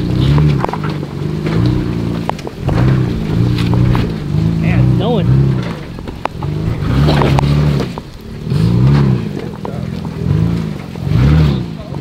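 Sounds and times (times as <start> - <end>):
engine revving in short bursts: 0.0 - 12.0.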